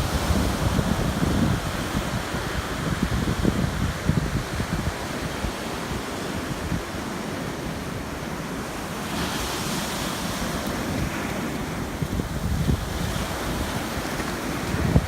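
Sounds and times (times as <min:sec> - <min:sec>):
surf washing onto beach: 0:00.0 - 0:15.0
wind on microphone: 0:00.0 - 0:15.0.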